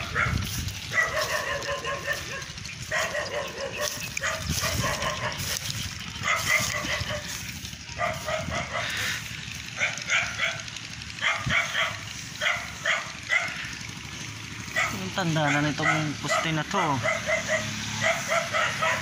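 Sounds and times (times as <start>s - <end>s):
dog barking: 0.0s - 9.2s, 9.8s - 13.8s, 14.6s - 19.0s.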